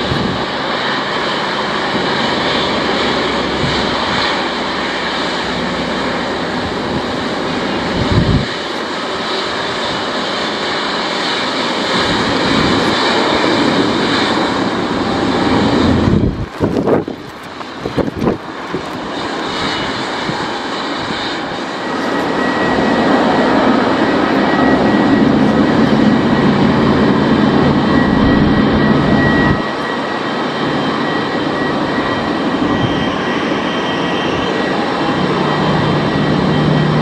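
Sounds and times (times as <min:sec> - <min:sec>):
jet engines rumbling and whining: 0:00.0 - 0:37.0.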